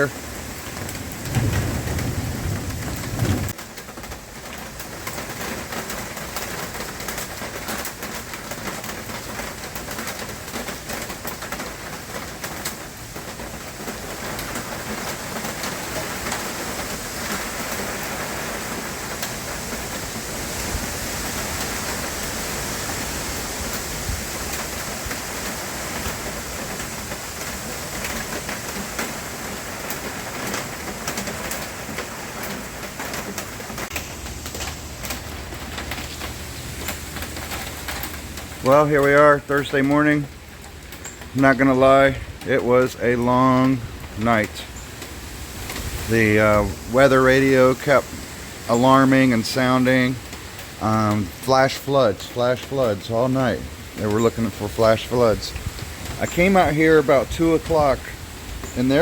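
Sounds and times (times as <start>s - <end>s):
rain and wind hiss: 0.0s - 59.0s.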